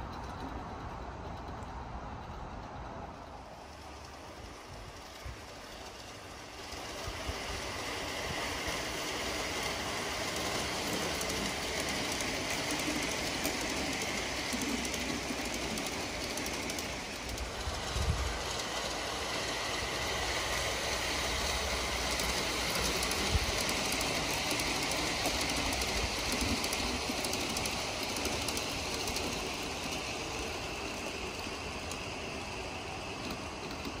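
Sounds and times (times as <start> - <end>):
model train running on rails: 0.0 - 34.0.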